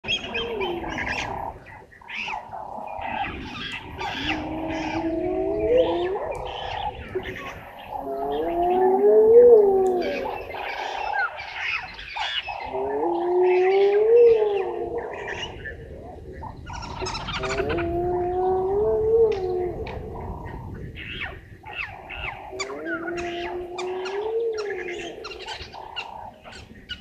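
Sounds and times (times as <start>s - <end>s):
birds wailing calls: 0.0s - 27.0s.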